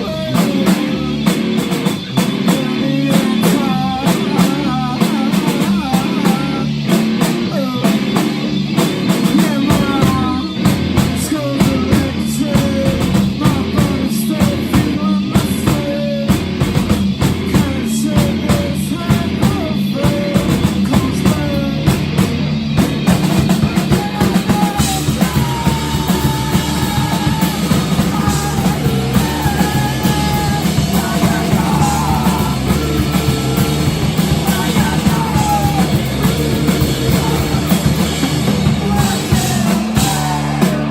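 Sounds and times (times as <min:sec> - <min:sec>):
person singing: 0:00.0 - 0:22.4, 0:23.3 - 0:40.9
punk rock band playing: 0:00.0 - 0:40.9.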